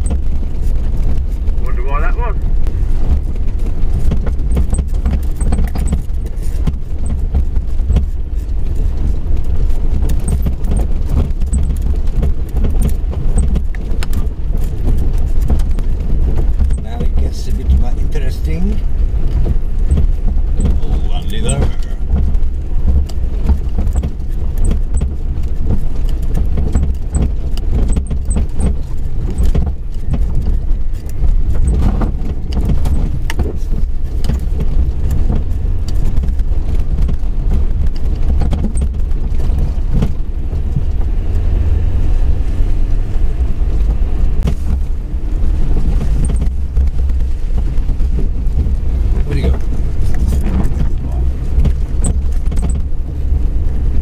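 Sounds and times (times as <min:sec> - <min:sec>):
car engine and road rumble: 0:00.0 - 0:54.0
vehicle knocking and rattling: 0:00.0 - 0:54.0.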